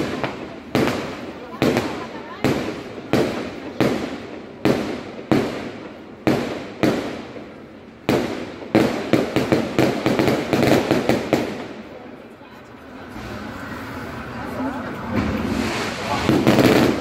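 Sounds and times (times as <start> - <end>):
fireworks bangs echoing: 0.0 - 12.2, 15.1 - 17.0.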